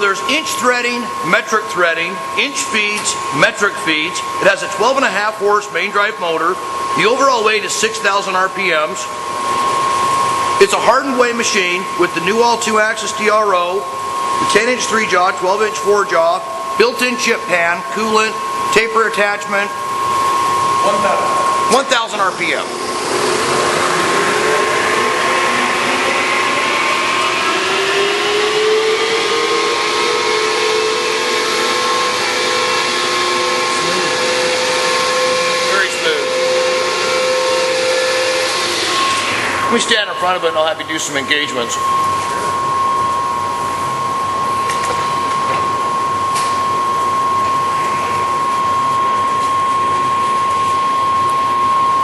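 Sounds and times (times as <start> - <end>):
lathe whirring and whining: 0.0 - 52.0.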